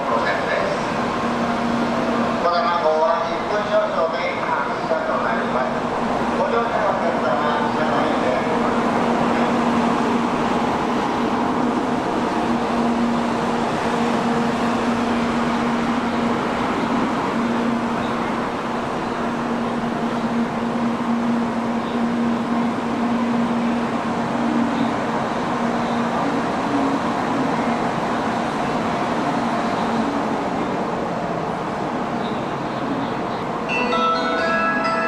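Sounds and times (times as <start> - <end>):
train equipment hum and whir: 0.0 - 35.0.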